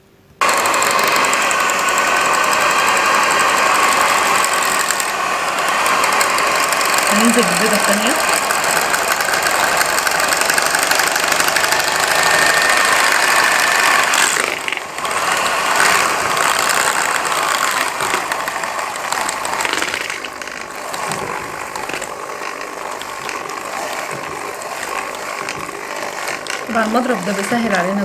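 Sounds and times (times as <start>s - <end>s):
electric hand mixer running: 0.4s - 28.0s.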